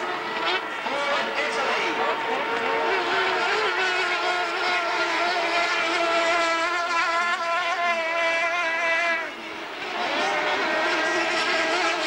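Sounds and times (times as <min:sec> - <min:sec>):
powerboat engine at full speed: 0:00.0 - 0:12.0.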